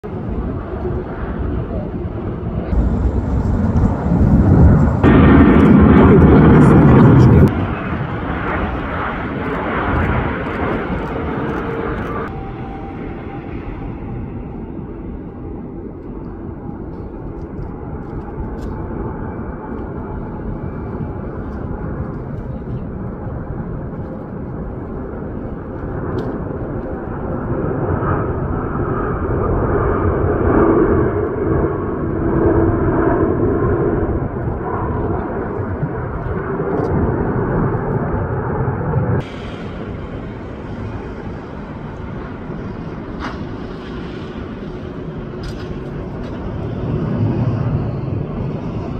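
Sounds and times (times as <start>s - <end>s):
airliner engine roar: 0.0s - 48.9s.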